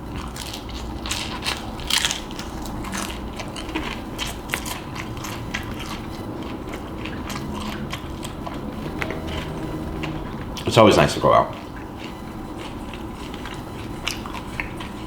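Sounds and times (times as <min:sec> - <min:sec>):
crunchy chewing of fried chicken: 0:00.0 - 0:15.0.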